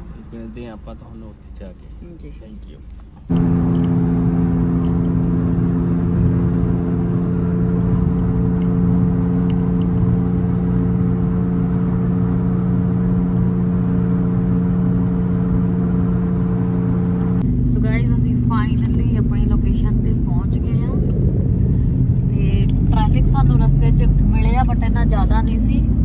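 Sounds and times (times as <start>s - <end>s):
car engine hum: 0.0s - 26.0s
tyre and road noise: 0.0s - 26.0s.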